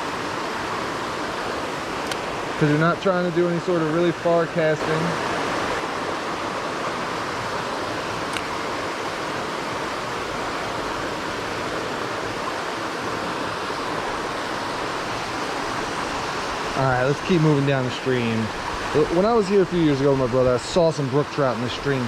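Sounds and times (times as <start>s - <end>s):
waterfall rushing into pool: 0.0s - 22.0s.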